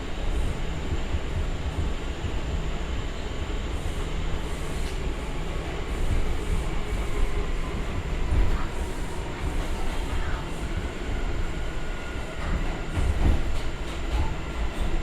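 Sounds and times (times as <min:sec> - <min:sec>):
subway car rumbling on track: 0:00.0 - 0:15.0.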